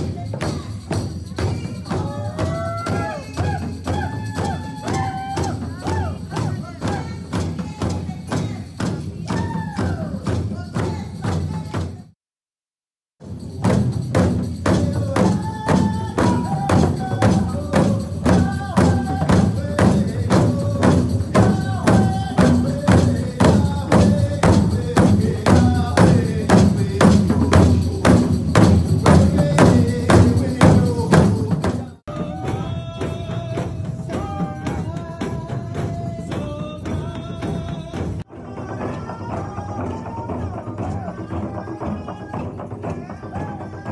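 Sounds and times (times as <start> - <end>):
man singing: 0.0 - 12.1, 14.6 - 43.9
frame drums beating: 0.0 - 12.2, 13.2 - 43.9.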